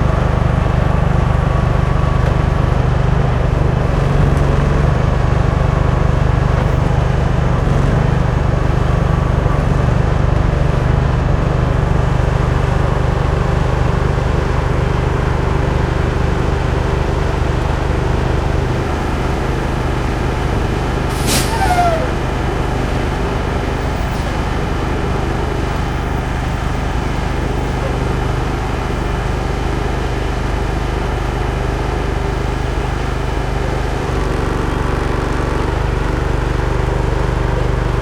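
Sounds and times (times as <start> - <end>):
truck engine droning: 0.0 - 38.0.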